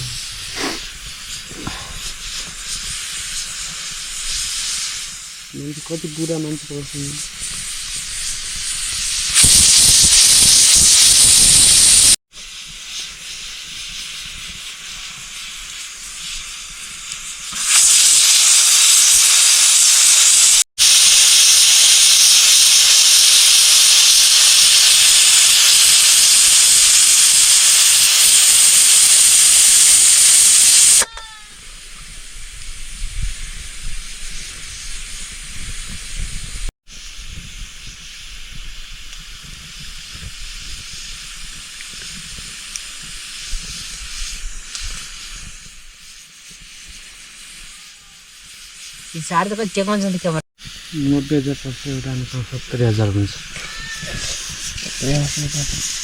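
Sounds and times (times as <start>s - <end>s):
rushing water hiss: 0.0s - 56.0s.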